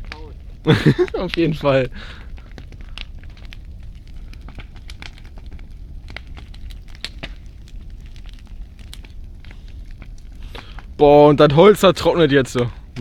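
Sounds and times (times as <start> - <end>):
bonfire crackling and popping: 0.0 - 13.0
low rumble of burning: 0.0 - 13.0.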